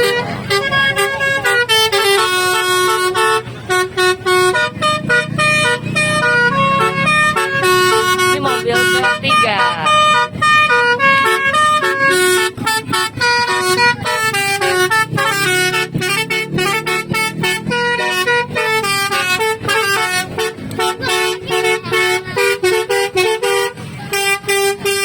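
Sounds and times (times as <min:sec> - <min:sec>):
musical car horn melody: 0:00.0 - 0:25.0.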